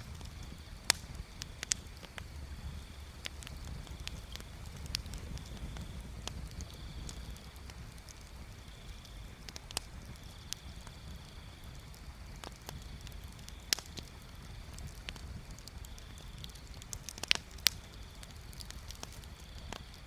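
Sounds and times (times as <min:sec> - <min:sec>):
low steady rumble: 0:00.0 - 0:20.0
wood fire crackling: 0:00.0 - 0:20.0.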